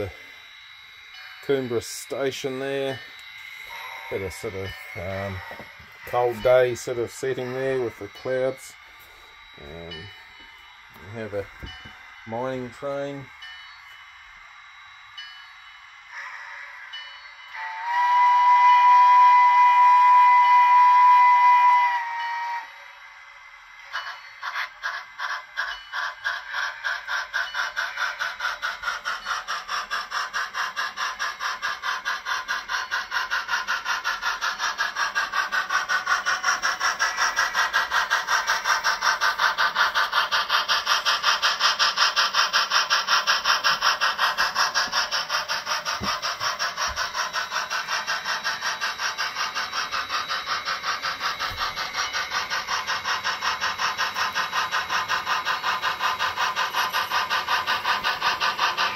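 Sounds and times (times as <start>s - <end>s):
model steam locomotive chuffing: 0.0s - 58.9s.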